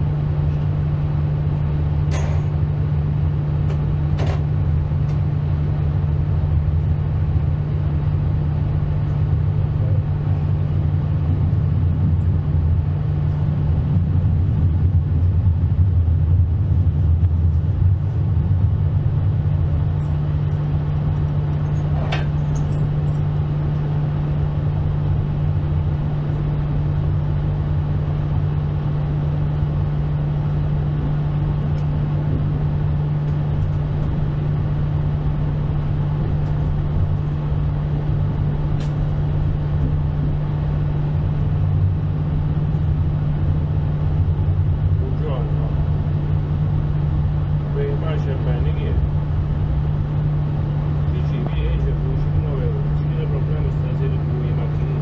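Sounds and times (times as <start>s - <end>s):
train running with low hum: 0.0s - 55.0s.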